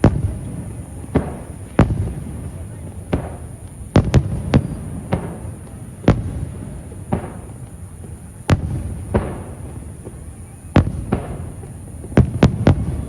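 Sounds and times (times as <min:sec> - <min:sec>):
fireworks crackle: 0:00.0 - 0:13.0.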